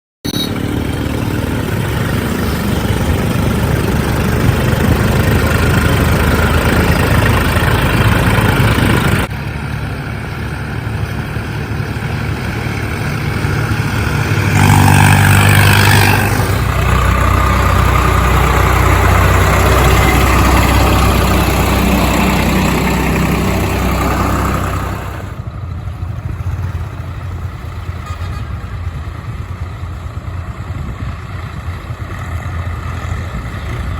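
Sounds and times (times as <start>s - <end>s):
diesel trucks on highway: 0.2s - 33.9s
tractor engine pulling load: 0.2s - 33.9s.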